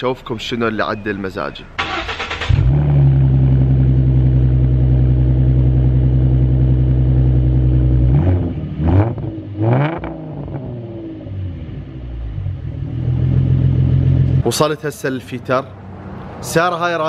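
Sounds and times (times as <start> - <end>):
car engine idling and revving: 1.7 - 16.7.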